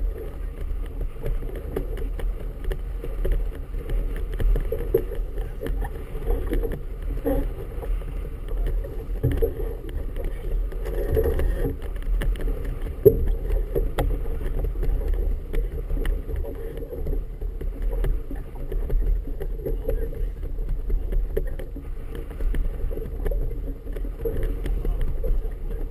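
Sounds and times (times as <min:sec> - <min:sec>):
boat knocks: 0:00.0 - 0:25.9
water slapping boat hull: 0:00.0 - 0:25.9
wind buffeting microphone: 0:00.0 - 0:25.9.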